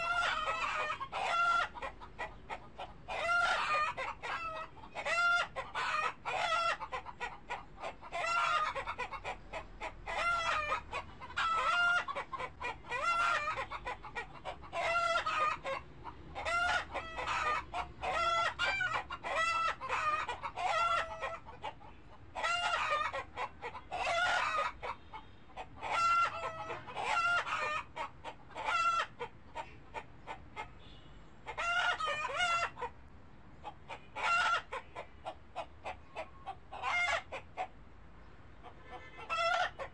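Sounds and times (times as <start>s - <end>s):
fowl calls: 0.0s - 32.9s, 33.6s - 37.8s, 38.6s - 39.9s.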